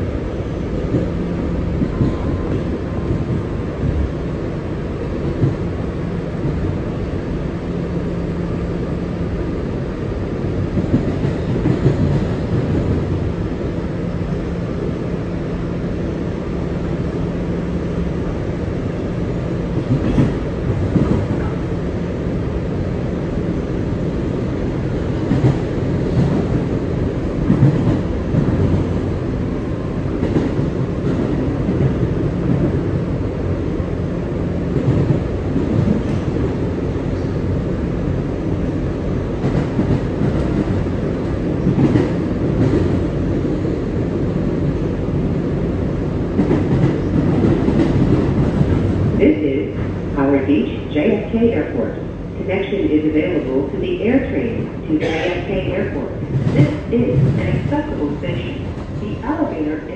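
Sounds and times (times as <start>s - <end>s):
subway car rolling rumble: 0.0s - 59.9s.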